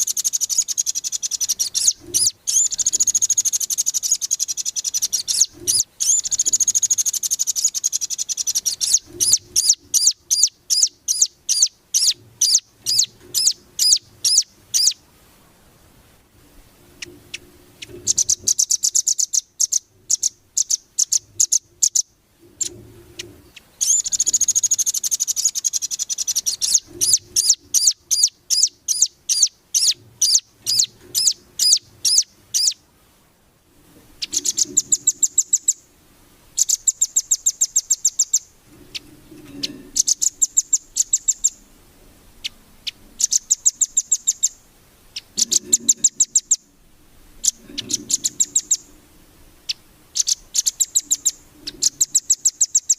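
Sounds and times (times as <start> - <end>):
songbird chirping: 0.0 - 15.8, 16.8 - 52.9.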